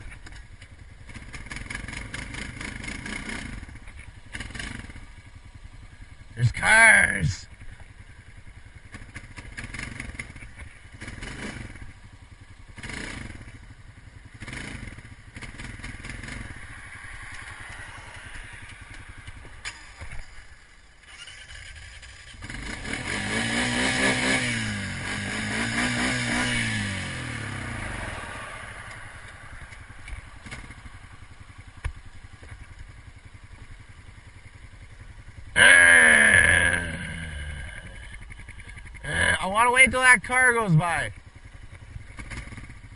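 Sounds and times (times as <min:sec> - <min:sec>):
atv engine idling and revving: 0:00.0 - 0:42.9.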